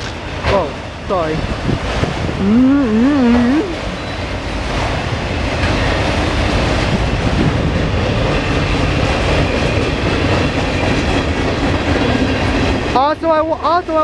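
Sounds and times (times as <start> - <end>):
freight train cars rolling past: 0.0 - 2.4, 3.7 - 14.0.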